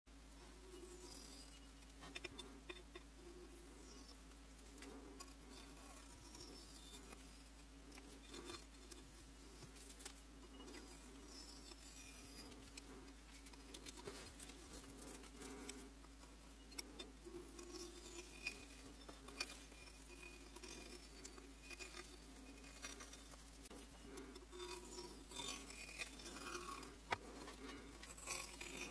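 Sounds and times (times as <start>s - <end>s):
low steady hum: 0.1s - 28.9s
clay shavings ticking: 0.3s - 28.9s
carving tool scraping clay: 0.4s - 28.9s.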